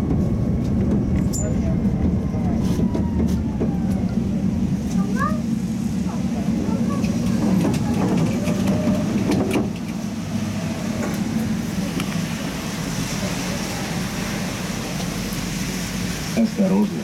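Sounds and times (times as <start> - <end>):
tram motors and wheels humming: 0.0 - 17.0.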